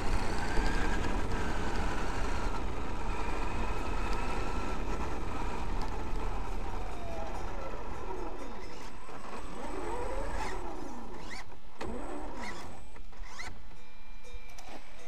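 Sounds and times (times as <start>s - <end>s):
electric motor whining: 0.0s - 13.8s.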